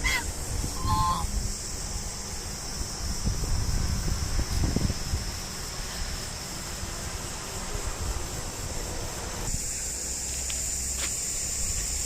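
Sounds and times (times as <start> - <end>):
wind rumble on microphone: 0.0 - 9.7
high-pitched insect chorus: 0.0 - 12.0.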